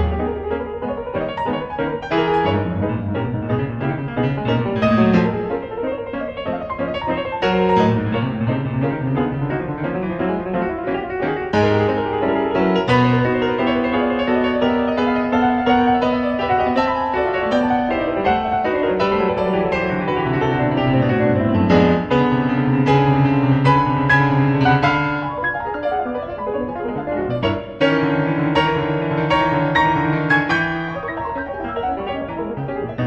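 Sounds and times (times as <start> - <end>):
background piano music: 0.0 - 33.0.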